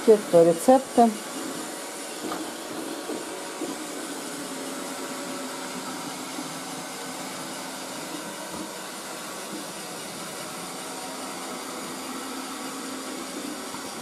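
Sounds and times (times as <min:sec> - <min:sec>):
robot vacuum cleaner whirring: 0:00.0 - 0:14.0.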